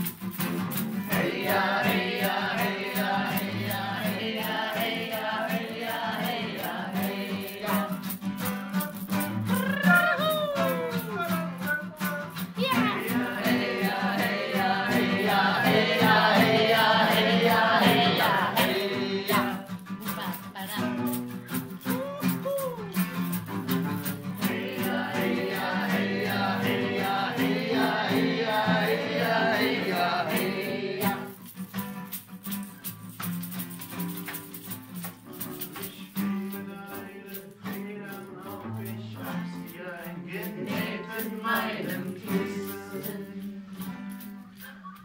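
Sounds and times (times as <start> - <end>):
strummed acoustic guitars: 0.0 - 45.0
group singing folk song: 0.6 - 19.9, 23.0 - 31.4, 35.4 - 44.4.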